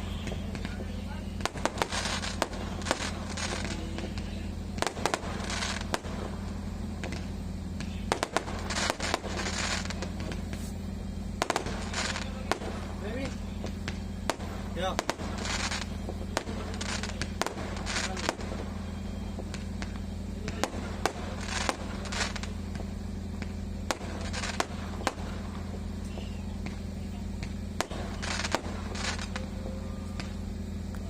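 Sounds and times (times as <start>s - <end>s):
firework hissing bursts: 0.0s - 30.9s
firework bangs: 0.0s - 31.0s
steady low hum: 0.0s - 31.0s.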